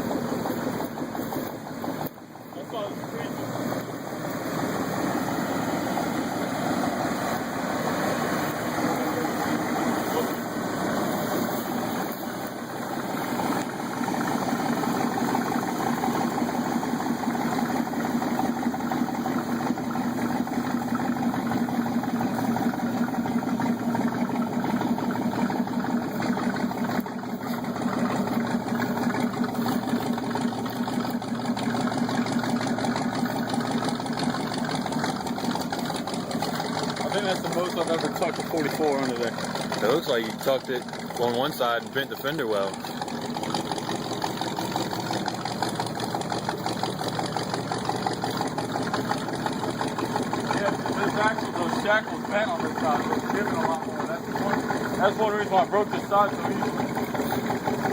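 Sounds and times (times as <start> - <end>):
truck engine at low revs: 0.0 - 57.9.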